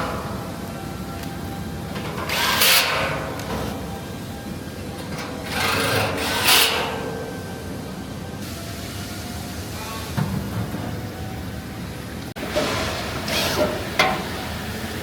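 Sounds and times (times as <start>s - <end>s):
low workshop hum: 0.0s - 15.0s.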